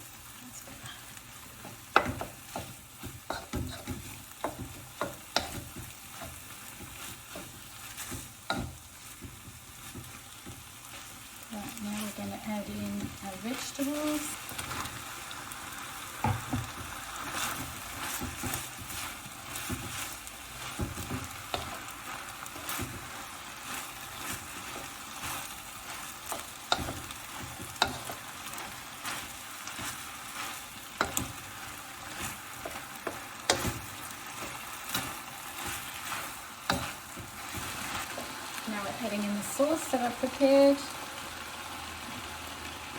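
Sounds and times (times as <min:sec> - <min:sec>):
food sizzling in a wok: 0:00.0 - 0:42.9
utensil scraping a wok: 0:00.5 - 0:40.4.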